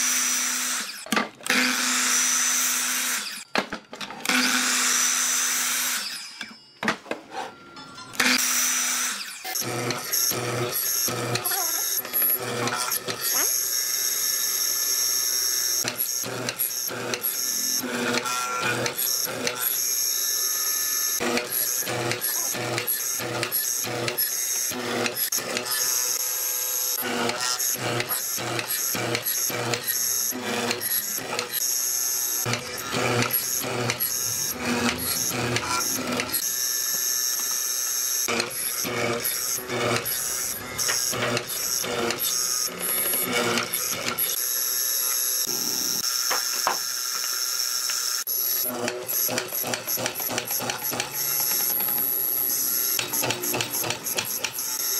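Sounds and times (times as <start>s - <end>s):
mortiser motor whine: 0.0s - 3.5s, 4.1s - 6.6s, 8.1s - 54.9s.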